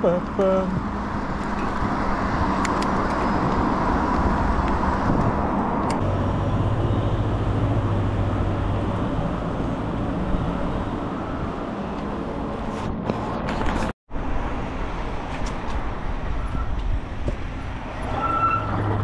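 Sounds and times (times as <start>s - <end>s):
road traffic noise: 0.0s - 19.0s
vehicle engine hum: 0.0s - 19.0s.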